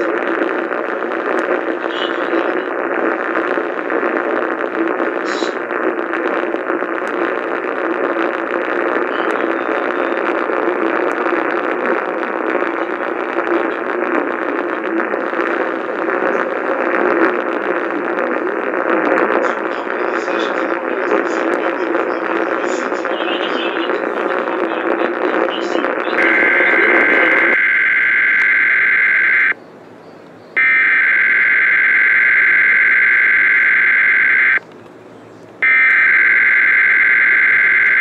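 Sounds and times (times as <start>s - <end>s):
radio static hiss: 0.0s - 29.6s, 30.3s - 38.0s
faint crackles: 0.0s - 38.0s.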